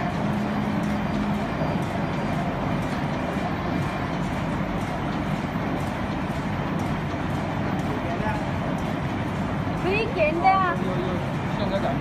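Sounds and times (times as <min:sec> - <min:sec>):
factory machinery running: 0:00.0 - 0:12.0.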